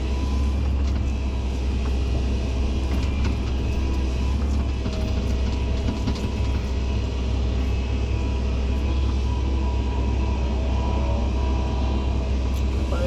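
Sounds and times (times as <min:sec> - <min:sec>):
heavy diesel engine rumbling: 0:00.0 - 0:13.0.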